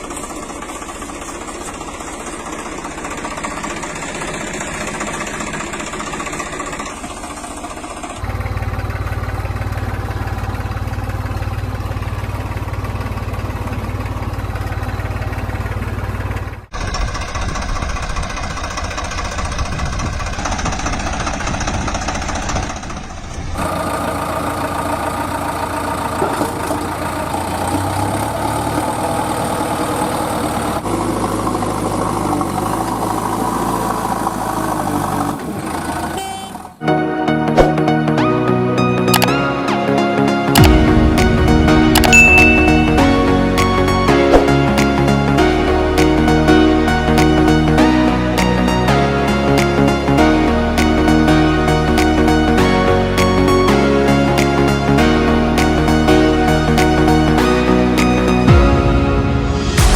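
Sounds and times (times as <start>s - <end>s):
heavy vehicle engines idling: 0.0s - 36.8s, 38.3s - 59.9s.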